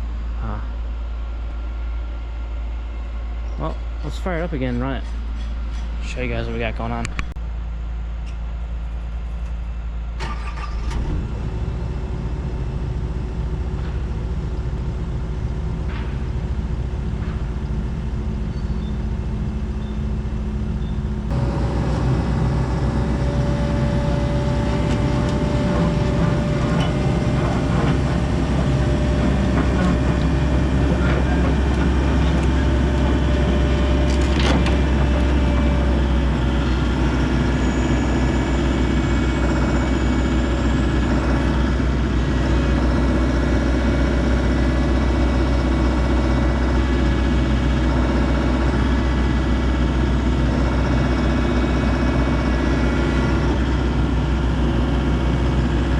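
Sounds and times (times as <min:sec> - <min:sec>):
excavator diesel engine running: 0:00.0 - 0:55.9
steady whine: 0:00.0 - 0:55.9.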